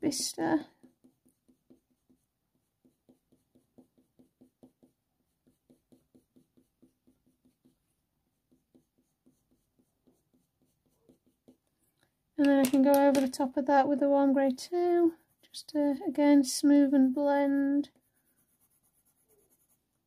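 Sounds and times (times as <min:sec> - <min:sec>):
pencil strokes on paper: 0:00.0 - 0:11.8, 0:13.8 - 0:20.0.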